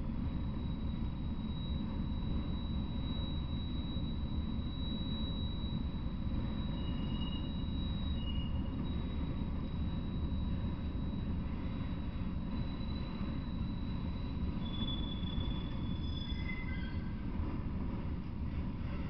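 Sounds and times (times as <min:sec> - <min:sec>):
high-pitched wheel squeals: 0:00.3 - 0:17.5.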